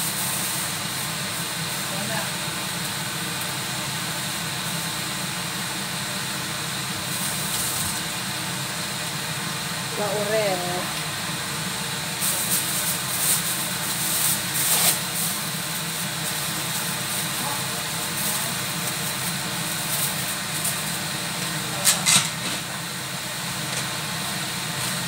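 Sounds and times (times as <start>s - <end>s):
broth simmering in wok: 0.0s - 25.0s
low mechanical hum: 0.0s - 25.0s.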